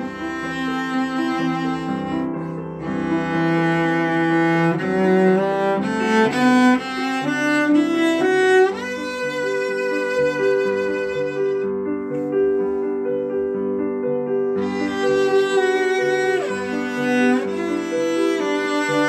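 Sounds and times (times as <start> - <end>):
slow instrumental melody: 0.0 - 19.0.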